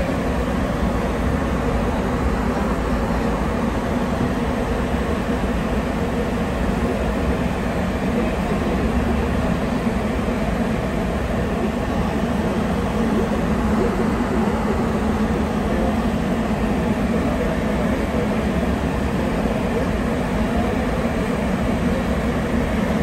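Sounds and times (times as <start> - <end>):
train rumbling through tunnel: 0.0 - 23.0.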